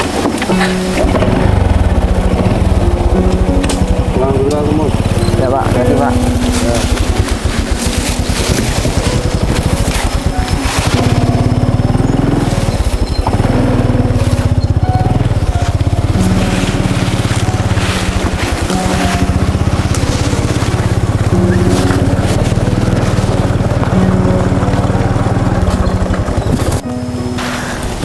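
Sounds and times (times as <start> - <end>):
slow background music: 0.0 - 28.0
small motorcycle engine: 0.0 - 28.0.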